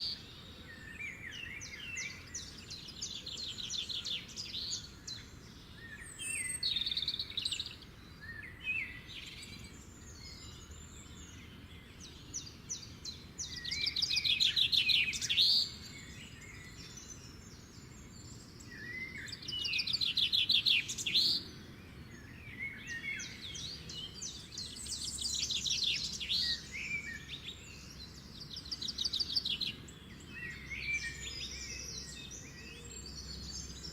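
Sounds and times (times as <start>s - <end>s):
faint background noise: 0.0s - 33.9s
songbirds chirping and trilling: 0.0s - 33.9s.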